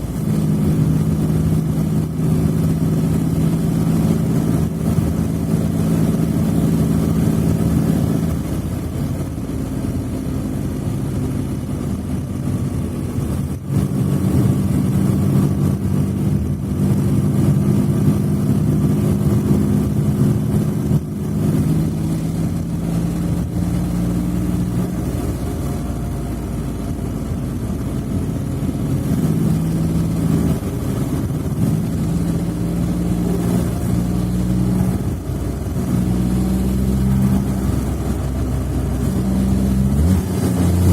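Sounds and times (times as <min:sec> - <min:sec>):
car engine humming: 0:00.0 - 0:40.9.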